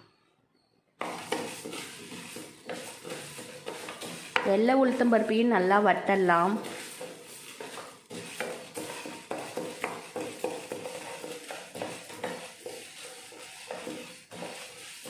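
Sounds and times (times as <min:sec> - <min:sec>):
dry lentils rattling in a pan: 0:01.0 - 0:05.3, 0:06.3 - 0:15.0
wooden spatula stirring: 0:01.0 - 0:15.0.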